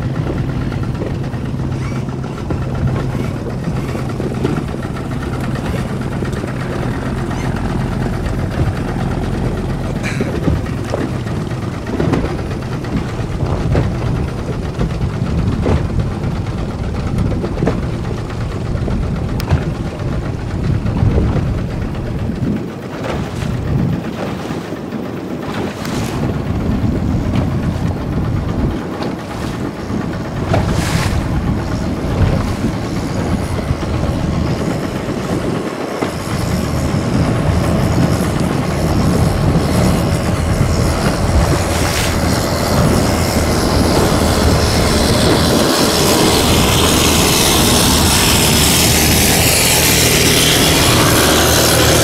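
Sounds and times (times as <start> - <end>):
hull thudding over waves: 0.0 - 52.0
speedboat motor running: 0.0 - 52.0
wind and spray rushing: 0.0 - 52.0.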